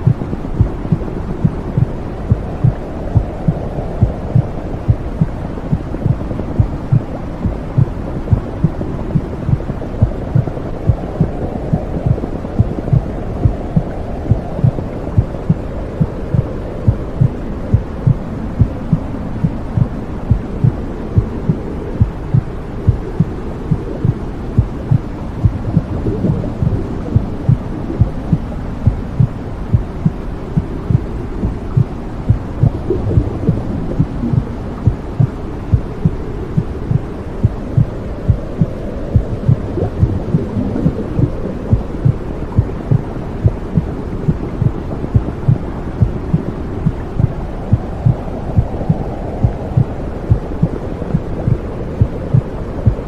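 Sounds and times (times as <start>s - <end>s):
low whooshing rumble: 0.0s - 53.0s
muffled heartbeat: 0.0s - 53.0s.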